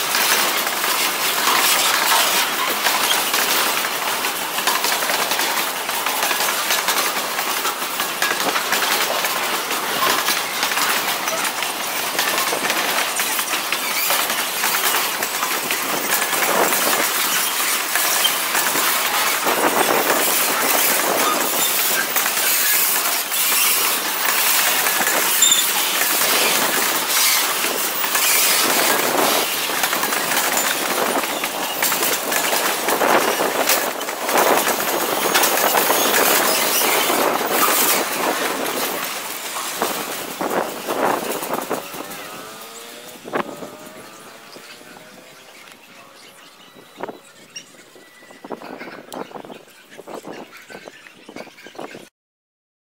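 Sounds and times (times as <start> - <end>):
knocks and clatters: 0.0 - 45.9
freight train wheels rumbling: 0.0 - 50.8.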